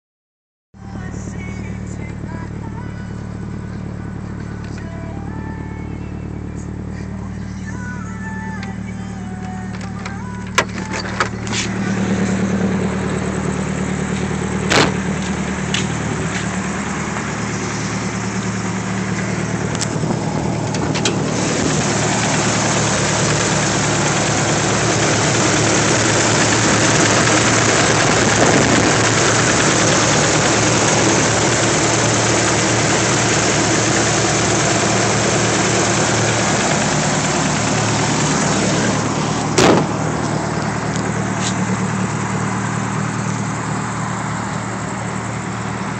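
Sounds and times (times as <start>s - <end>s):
car engine idling with ticking: 0.8s - 45.9s.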